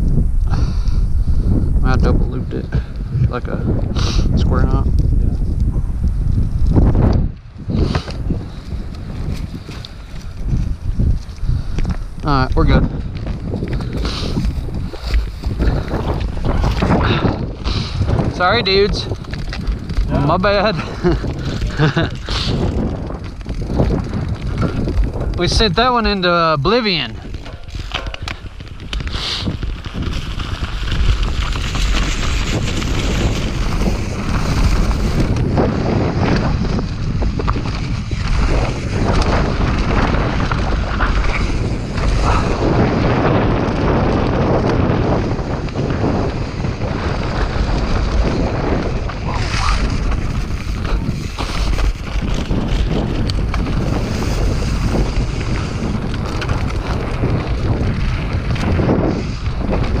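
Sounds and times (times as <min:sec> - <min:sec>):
wind buffeting microphone: 0:00.0 - 1:00.0
mountain bike rattling on trail: 0:00.1 - 1:00.0.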